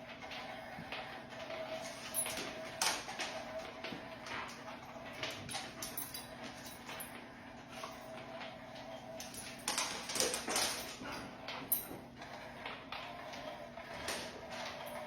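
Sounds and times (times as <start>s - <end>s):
dog paws tapping and scuffing: 0.1s - 15.0s.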